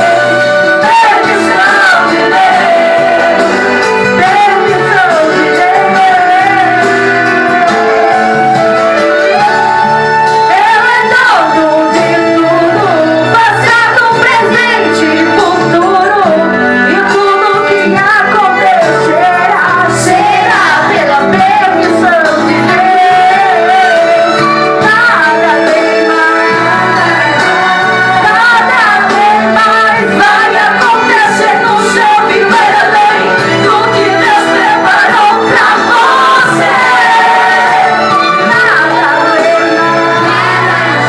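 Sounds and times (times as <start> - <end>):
woman singing: 0.0 - 9.6, 10.2 - 41.0
instrumental accompaniment: 0.0 - 41.0.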